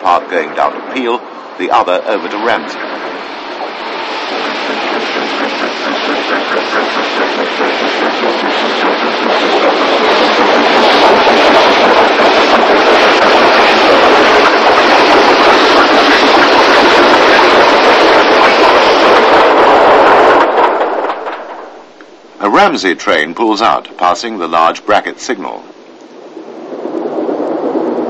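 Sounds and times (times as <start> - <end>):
steam train running: 0.0 - 26.8.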